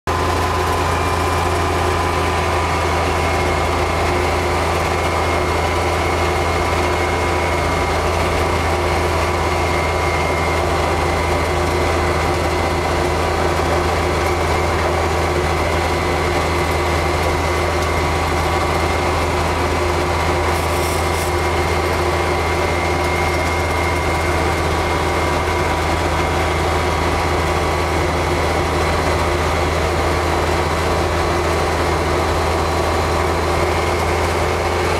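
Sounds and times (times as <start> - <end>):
tractor diesel engine drone: 0.0 - 34.9
steady higher whine: 0.1 - 34.9.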